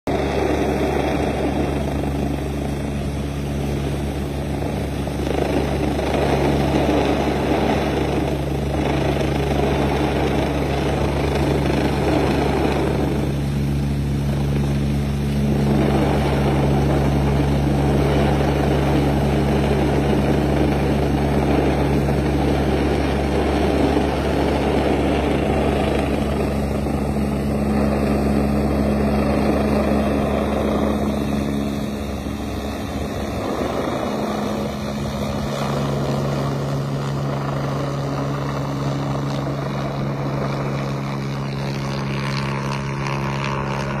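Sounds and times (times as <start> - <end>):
helicopter rotor and turbine: 0.0 - 44.0.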